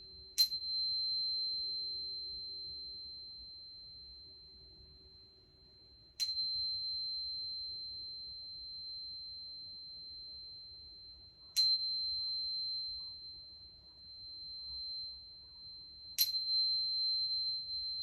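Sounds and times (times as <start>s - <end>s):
faint lower ringing tone: 0.0s - 18.0s.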